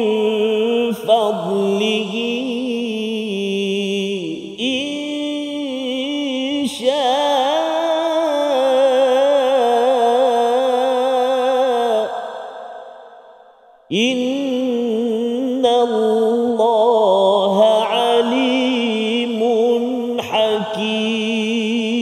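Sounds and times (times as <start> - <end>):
man reciting melodically: 0.0 - 12.8, 13.9 - 22.0.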